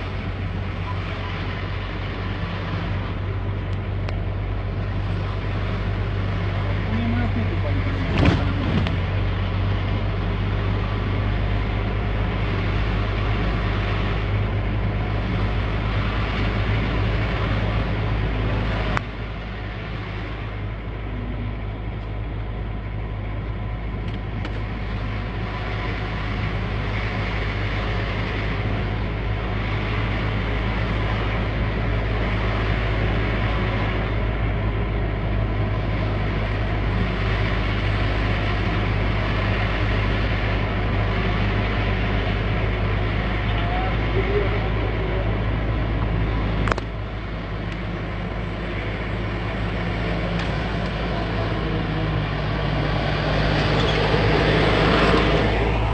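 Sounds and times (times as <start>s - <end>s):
truck diesel engine humming: 0.0s - 55.9s.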